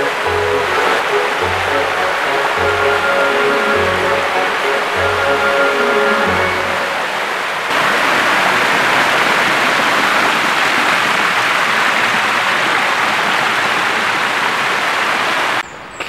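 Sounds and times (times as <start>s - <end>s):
waterfall rushing over rocks: 0.0s - 15.6s.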